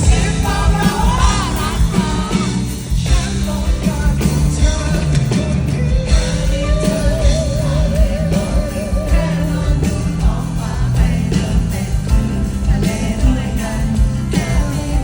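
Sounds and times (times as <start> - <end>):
live rock band playing: 0.0 - 15.0
person singing with vibrato: 0.0 - 15.0
steady drum beat: 0.0 - 15.0.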